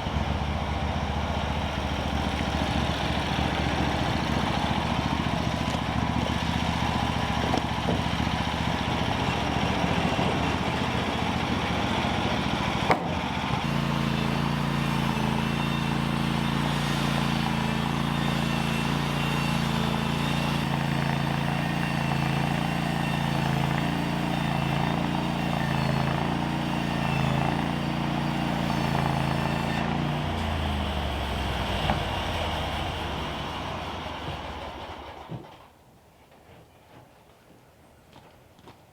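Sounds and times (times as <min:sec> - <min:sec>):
motor engine running: 0:00.0 - 0:35.6.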